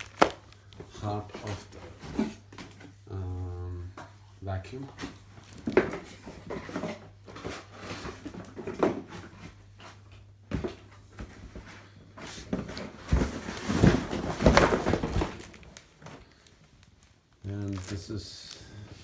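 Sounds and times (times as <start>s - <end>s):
packaging rustling and clattering: 0.0s - 3.0s, 3.9s - 19.0s.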